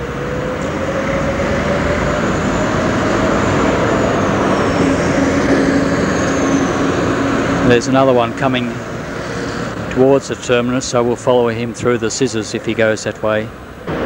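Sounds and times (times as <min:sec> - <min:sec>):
faint rising whine: 0:00.0 - 0:14.0
low hum: 0:00.0 - 0:14.0
traffic rumble: 0:00.0 - 0:14.0.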